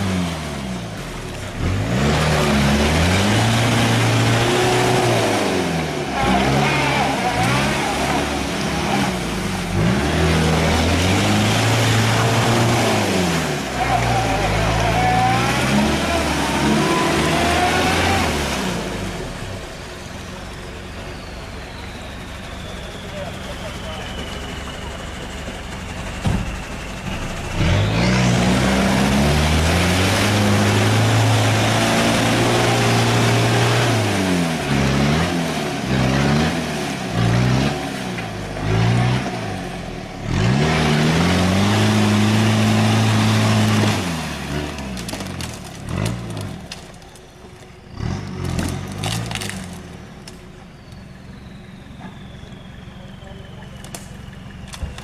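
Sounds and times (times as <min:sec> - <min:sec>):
off-road vehicle engine revving: 0:00.0 - 0:55.0
wheels spinning in mud: 0:01.2 - 0:39.3, 0:40.1 - 0:55.0.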